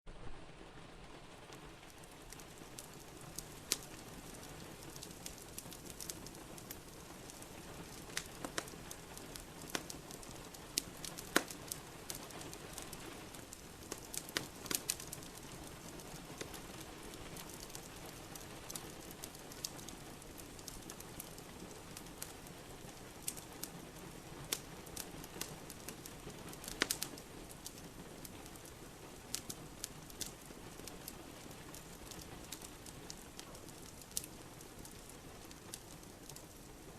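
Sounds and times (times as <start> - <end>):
falling rain hiss: 0.1 - 36.9
wood fire crackling in fireplace: 0.1 - 36.9.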